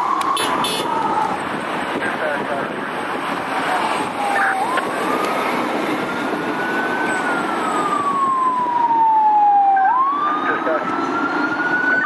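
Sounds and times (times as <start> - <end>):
fire truck siren wailing: 0.0 - 12.0.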